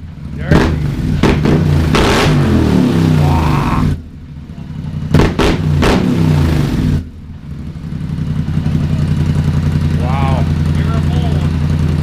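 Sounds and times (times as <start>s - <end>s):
engine revving: 0.0s - 4.1s, 4.7s - 12.0s
engine idling: 0.0s - 12.0s.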